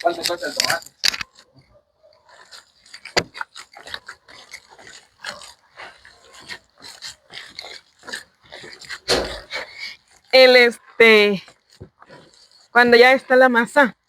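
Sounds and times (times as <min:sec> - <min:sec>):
hands working dough in a bowl: 0:00.0 - 0:14.0.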